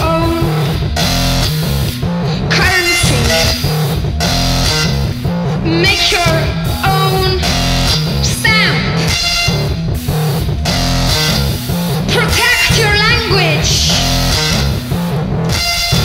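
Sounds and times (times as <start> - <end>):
electronic rock music: 0.0 - 16.0.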